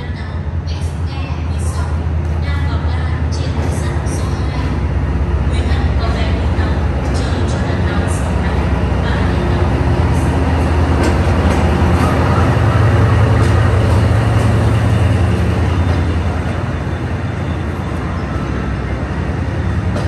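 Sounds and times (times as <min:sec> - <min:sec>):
diesel locomotive engine drone: 0:00.0 - 0:20.0
passenger coaches rolling past: 0:00.0 - 0:20.0.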